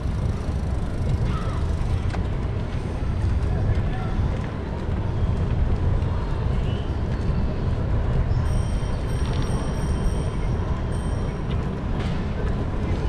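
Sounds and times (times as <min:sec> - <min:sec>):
city street traffic: 0:00.0 - 0:13.0
wind rumbling on microphone: 0:00.0 - 0:13.0.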